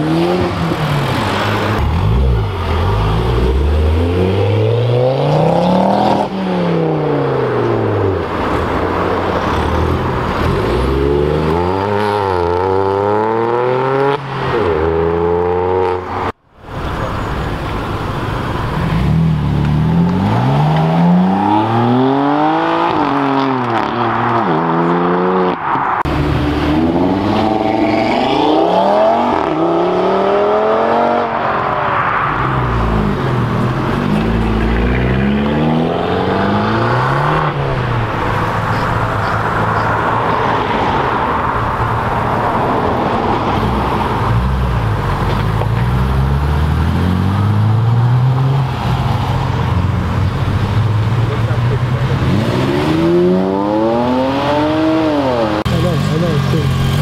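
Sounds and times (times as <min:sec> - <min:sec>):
cars accelerating hard: 0:00.0 - 0:16.4, 0:18.6 - 0:57.0.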